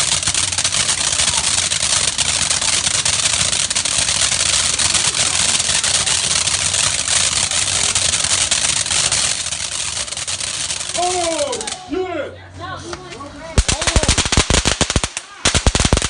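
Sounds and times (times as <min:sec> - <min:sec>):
firework hissing and crackling: 0:00.0 - 0:11.9, 0:13.6 - 0:16.0.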